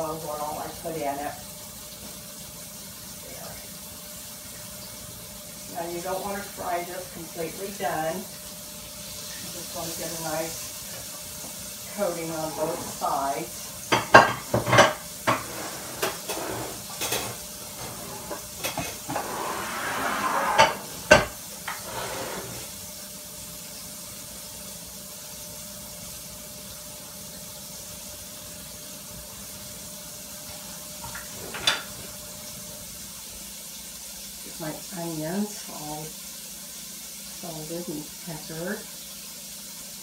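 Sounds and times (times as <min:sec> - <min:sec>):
meat sizzling in a skillet: 0:00.0 - 0:40.0.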